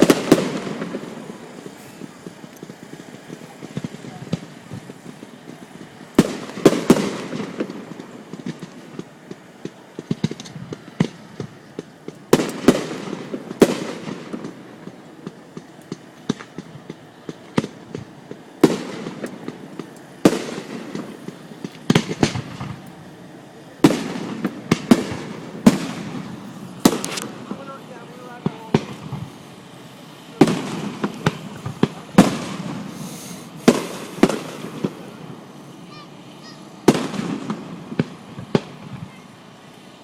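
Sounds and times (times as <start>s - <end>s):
fireworks bangs with echo: 0.0s - 39.5s
fireworks crackles: 0.0s - 40.0s.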